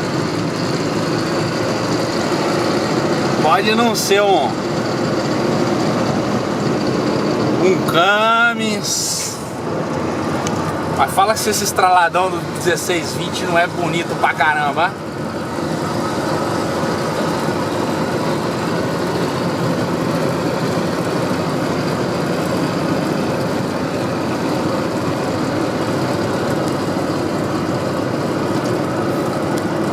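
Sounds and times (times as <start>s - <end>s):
diesel truck engine rumbling: 0.0s - 29.9s.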